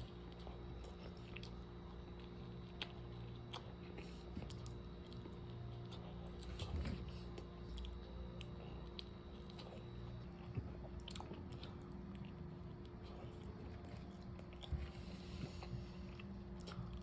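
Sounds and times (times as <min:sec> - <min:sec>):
low steady hum: 0:00.0 - 0:17.0
person chewing food: 0:00.0 - 0:17.0.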